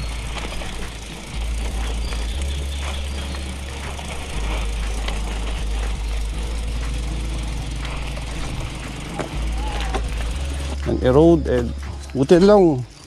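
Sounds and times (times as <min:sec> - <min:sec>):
bike rattles and clicks: 0:00.0 - 0:13.0
bike tyres crunching on gravel: 0:00.0 - 0:13.0.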